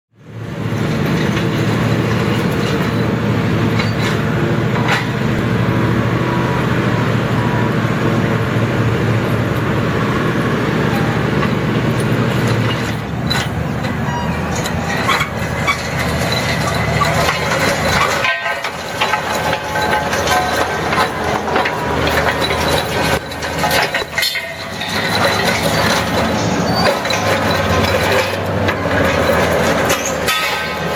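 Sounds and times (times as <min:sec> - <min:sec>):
diesel engine running: 0:00.1 - 0:30.9
soil pulverizer clattering: 0:00.3 - 0:30.9.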